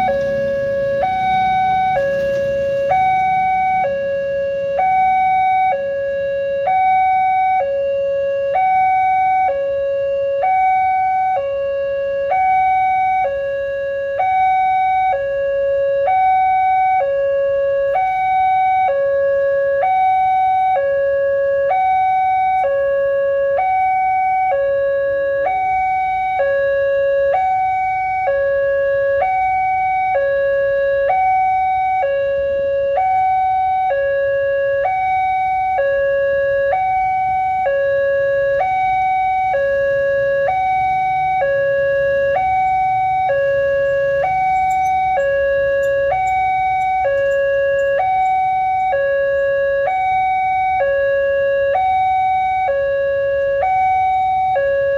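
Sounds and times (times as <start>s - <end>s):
two-tone level crossing alarm: 0.0s - 54.9s.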